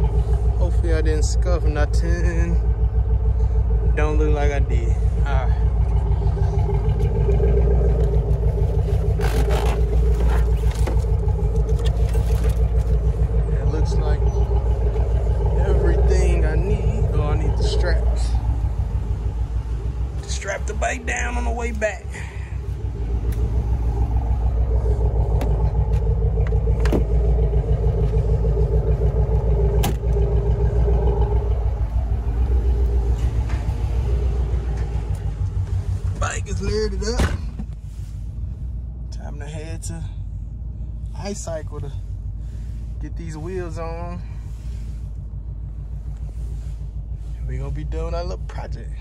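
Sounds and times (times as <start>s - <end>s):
vehicle engine idling: 0.0s - 49.0s.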